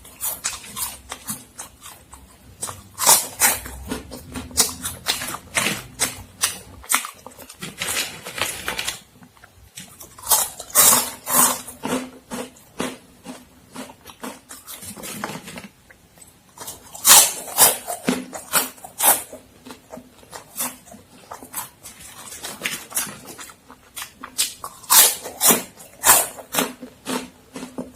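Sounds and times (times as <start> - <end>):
crunching and chewing snacks: 0.0 - 27.9.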